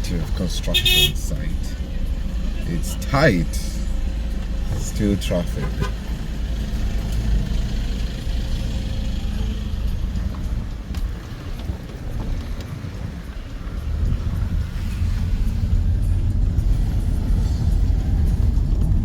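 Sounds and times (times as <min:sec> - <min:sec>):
car engine and tyres rumble: 0:00.0 - 0:19.0.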